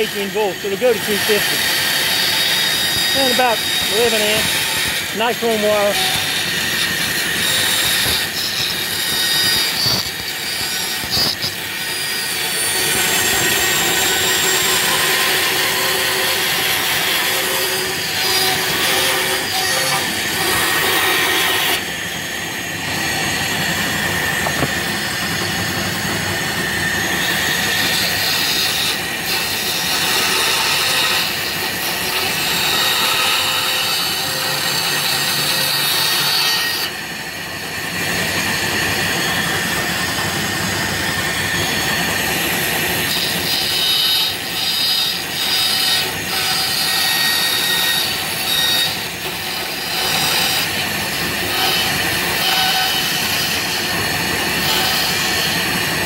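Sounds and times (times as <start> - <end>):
bandsaw cutting plywood: 0.0 - 56.0
high tone of running saw: 0.0 - 56.0.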